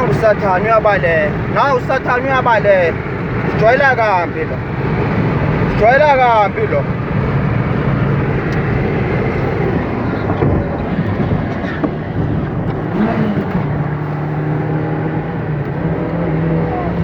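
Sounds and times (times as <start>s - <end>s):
road and tyre noise: 0.0s - 17.0s
truck engine running: 0.0s - 17.0s.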